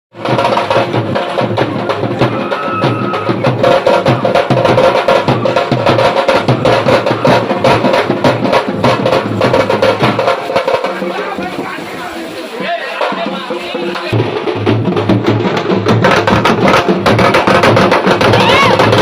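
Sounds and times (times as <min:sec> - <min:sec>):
rapid festival drumming: 0:00.1 - 0:19.0.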